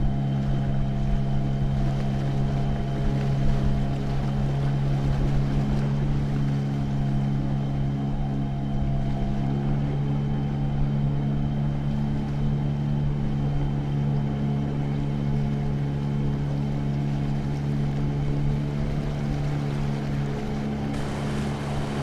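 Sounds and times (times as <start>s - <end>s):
motorboat engine running: 0.0s - 22.0s
water and hull noise: 0.0s - 22.0s.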